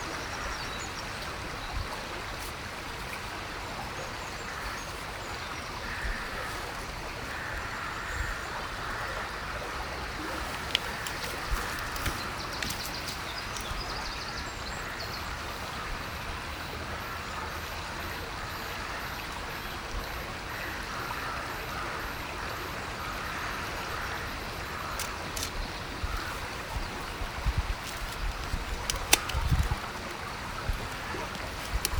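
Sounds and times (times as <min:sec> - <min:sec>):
river water rushing: 0:00.0 - 0:18.4, 0:19.8 - 0:31.9.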